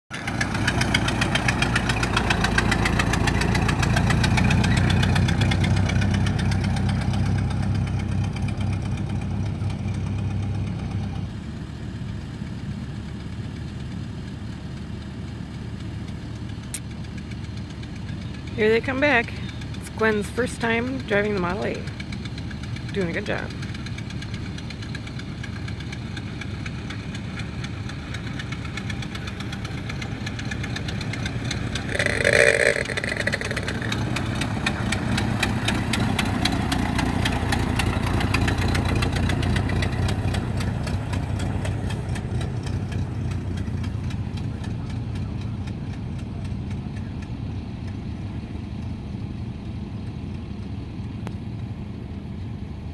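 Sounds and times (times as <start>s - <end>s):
old car engine running: 0.1s - 52.9s.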